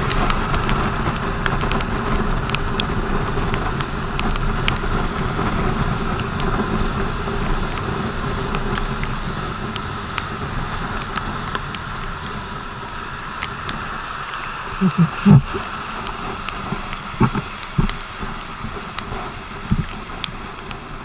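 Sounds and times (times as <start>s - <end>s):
small ticks: 0.0s - 12.4s, 14.8s - 20.9s
wind and road noise: 0.0s - 21.0s.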